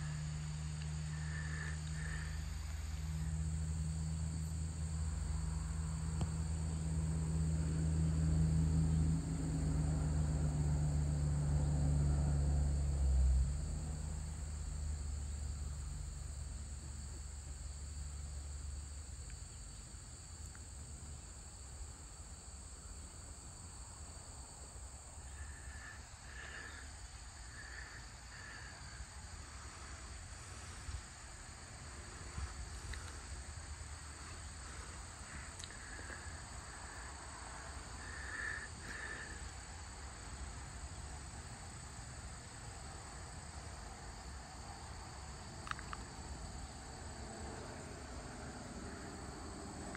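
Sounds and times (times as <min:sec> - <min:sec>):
crickets and insects chorus: 0:00.0 - 0:49.9.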